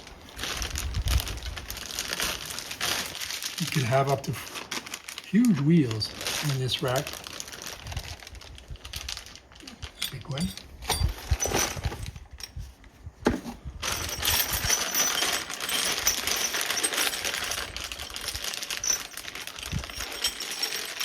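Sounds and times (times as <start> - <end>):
rattling and crinkling clatter: 0.0 - 21.0.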